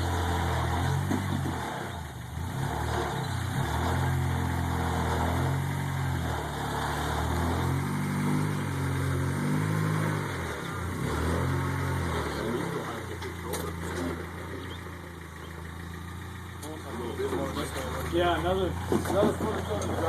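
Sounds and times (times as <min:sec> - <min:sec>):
car engine revving at low speed: 0:00.0 - 0:20.0.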